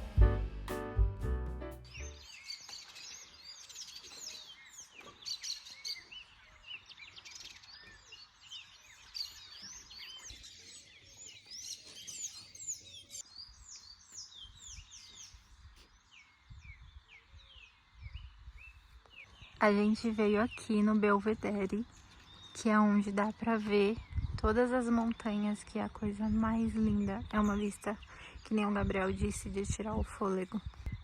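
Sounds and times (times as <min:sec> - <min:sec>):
small birds chirping chorus: 0:01.9 - 0:31.0.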